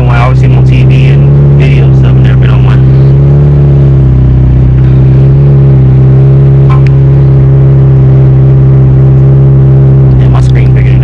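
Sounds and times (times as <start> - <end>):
car engine droning in cabin: 0.0 - 11.0.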